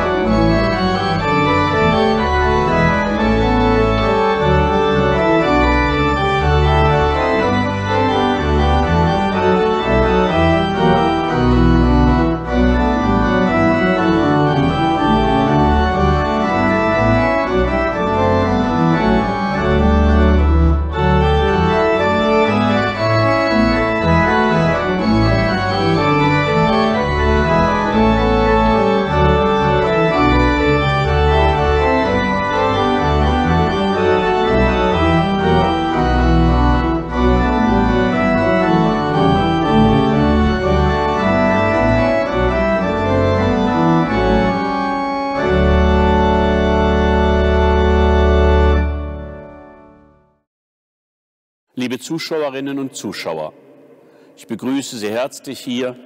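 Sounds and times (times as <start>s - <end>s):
church organ playing chords: 0.0s - 50.4s, 51.8s - 56.0s.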